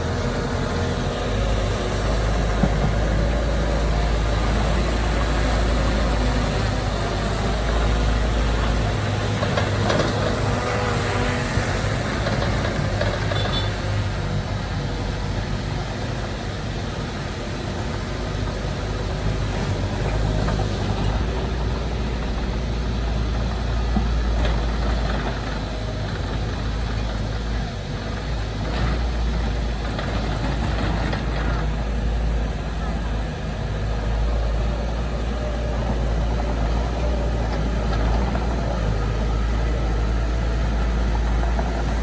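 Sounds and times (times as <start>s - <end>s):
heavy machinery diesel engines rumbling: 0.0s - 42.0s.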